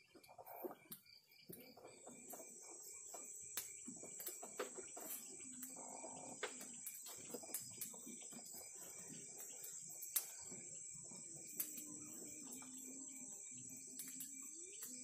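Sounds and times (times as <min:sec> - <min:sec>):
crickets trilling: 0:00.0 - 0:15.0
wood fire crackling: 0:02.2 - 0:15.0.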